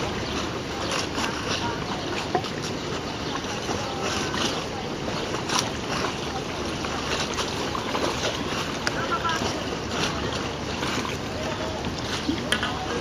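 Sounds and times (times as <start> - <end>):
choppy water: 0.0 - 13.0
wind: 0.0 - 13.0.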